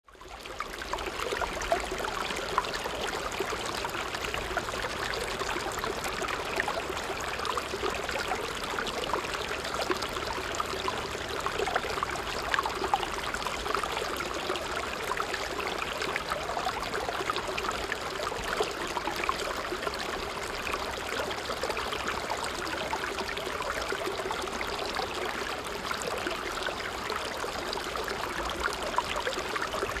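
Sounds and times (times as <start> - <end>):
stream flowing over rocks: 0.2 - 30.0.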